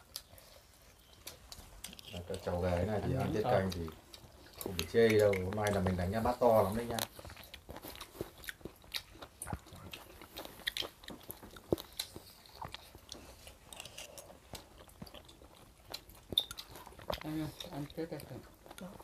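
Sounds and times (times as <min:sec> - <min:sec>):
close chewing and biting: 0:00.0 - 0:19.0.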